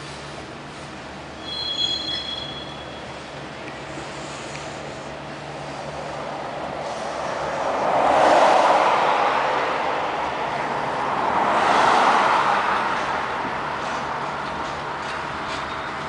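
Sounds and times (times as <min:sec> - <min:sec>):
cars passing: 0:00.0 - 0:16.0
freight train rumbling: 0:00.0 - 0:16.0.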